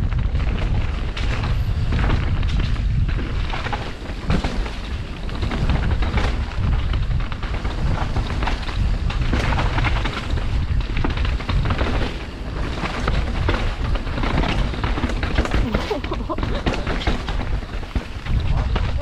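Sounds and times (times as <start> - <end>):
bike clattering over bumps: 0.0 - 19.0
wind buffeting microphone: 0.0 - 19.0.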